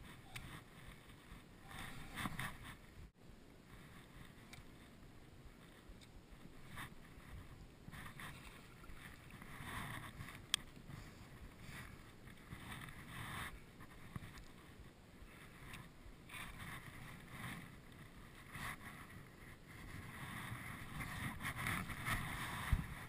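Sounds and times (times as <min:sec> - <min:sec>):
water around a boat: 0:00.0 - 0:23.0
wind: 0:00.0 - 0:23.0.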